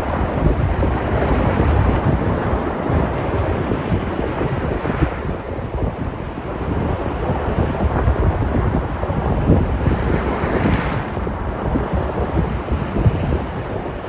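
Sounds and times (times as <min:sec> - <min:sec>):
sea surf washing against shore: 0:00.0 - 0:14.0
wind buffeting microphone: 0:00.0 - 0:14.0.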